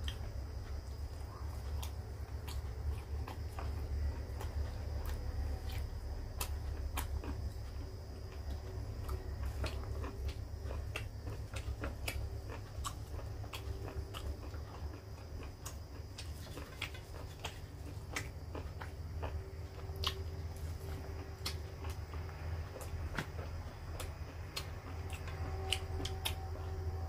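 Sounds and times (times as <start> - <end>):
chewing clicks: 0.0 - 27.0
steady low hum: 0.0 - 27.0.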